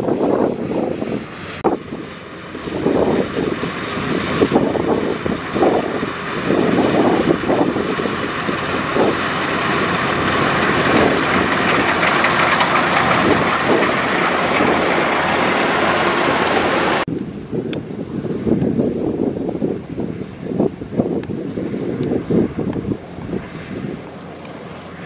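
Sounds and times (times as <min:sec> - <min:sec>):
combine harvester running: 0:00.0 - 0:17.1, 0:21.6 - 0:25.0.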